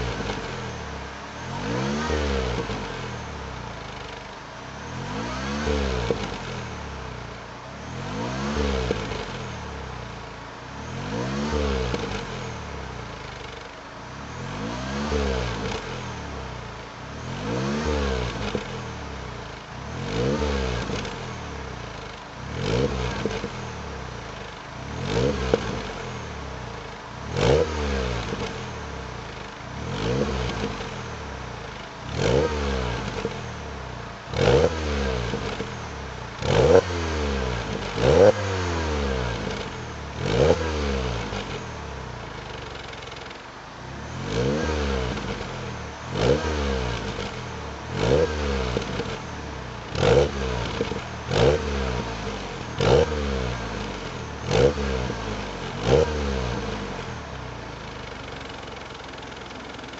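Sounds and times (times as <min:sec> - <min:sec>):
car engine revving in blips: 0:00.0 - 0:59.9.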